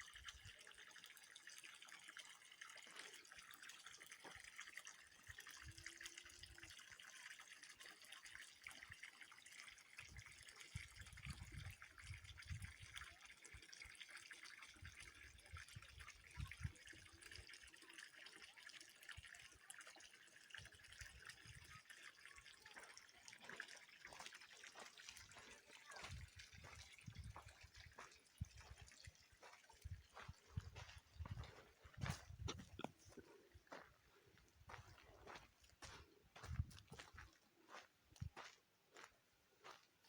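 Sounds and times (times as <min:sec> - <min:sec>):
faint trickling water: 0:00.0 - 0:40.0.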